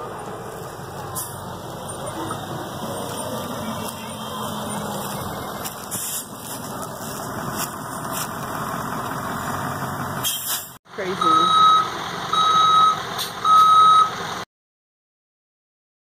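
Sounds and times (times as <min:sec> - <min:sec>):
bus engine running: 0:00.0 - 0:14.5.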